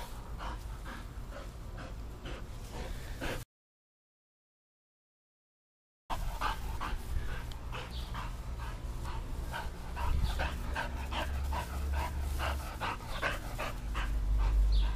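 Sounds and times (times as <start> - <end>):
dog panting: 0.0 - 3.4, 6.1 - 14.9
steady low rumble: 0.0 - 3.4, 6.1 - 14.9.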